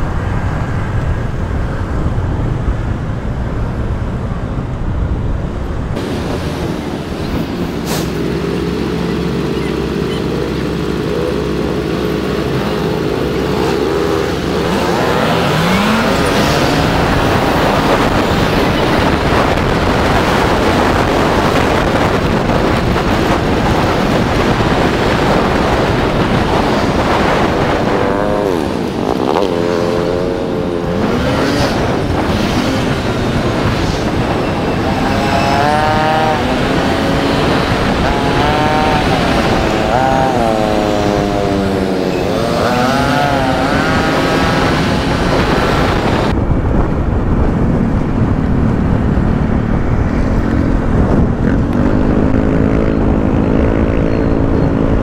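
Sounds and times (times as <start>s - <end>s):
motorcycle engine idling and revving: 0.0s - 55.0s
road noise: 0.0s - 55.0s
wind noise: 0.0s - 55.0s.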